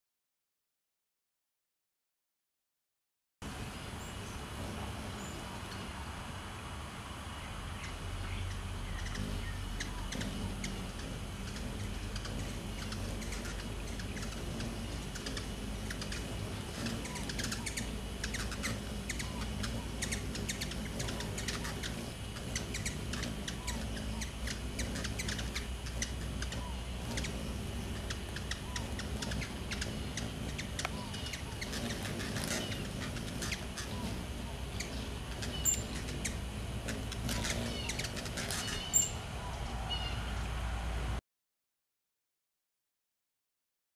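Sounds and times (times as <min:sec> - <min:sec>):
hummingbirds chirping: 0:03.4 - 0:41.1
low steady hum: 0:03.4 - 0:41.2.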